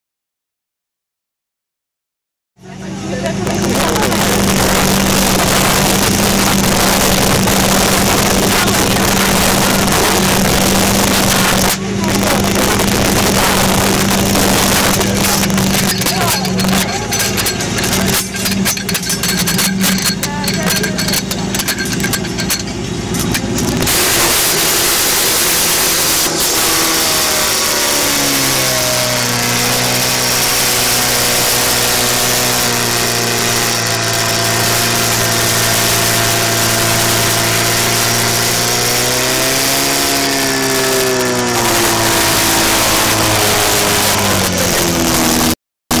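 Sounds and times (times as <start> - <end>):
pump engine droning: 2.6 - 46.0.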